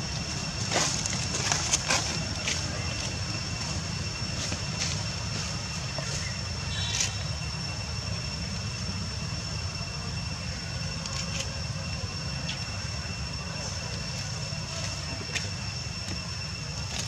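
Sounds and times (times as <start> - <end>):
low outdoor rumble: 0.0 - 17.0
thin high whine: 0.0 - 17.0.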